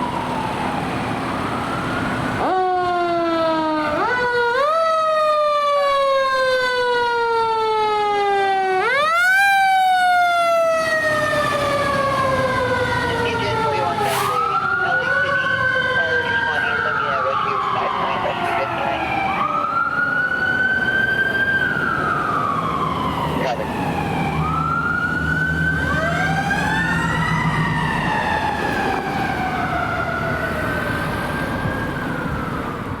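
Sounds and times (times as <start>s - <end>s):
siren wailing: 0.0s - 33.0s
truck engines rumbling: 0.0s - 33.0s.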